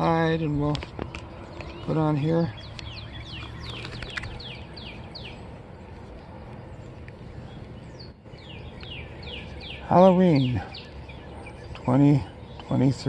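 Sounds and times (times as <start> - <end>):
outdoor background noise: 0.0 - 13.0
songbird singing: 0.0 - 13.0.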